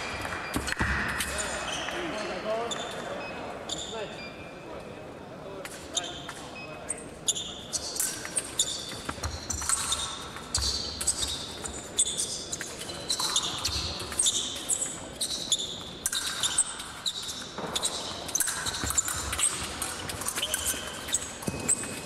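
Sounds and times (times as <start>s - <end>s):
shoes squeaking: 0.0s - 4.2s, 5.7s - 22.0s.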